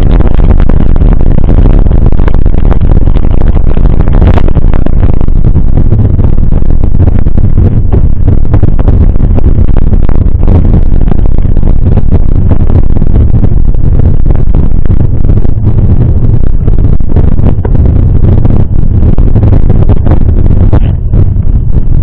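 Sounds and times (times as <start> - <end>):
wind and road rumble: 0.0 - 22.0.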